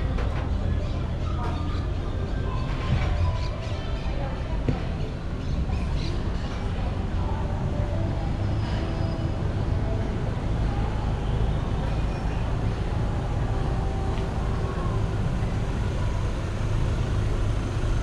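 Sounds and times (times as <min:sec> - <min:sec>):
faint street murmur: 0:00.0 - 0:18.0
vehicle engine rumbling: 0:00.0 - 0:18.0.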